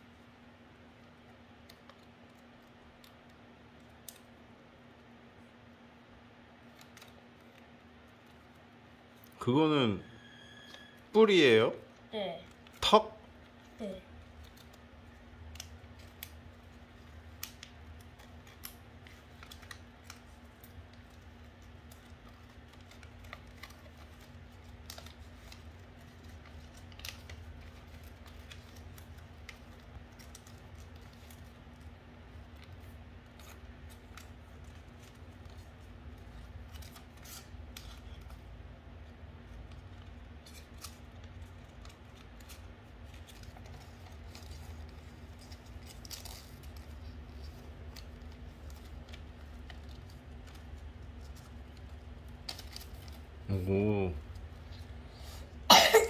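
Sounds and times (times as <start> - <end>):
faint background hum: 0.0 - 56.0
paper crinkling: 6.4 - 9.4, 12.4 - 55.7.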